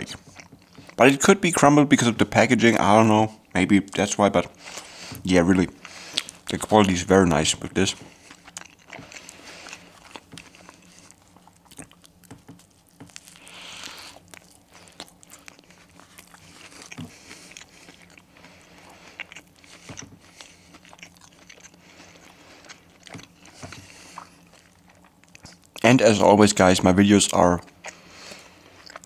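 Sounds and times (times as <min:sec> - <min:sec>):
chewing crispy chicken burger: 0:00.0 - 0:01.2, 0:03.8 - 0:29.0.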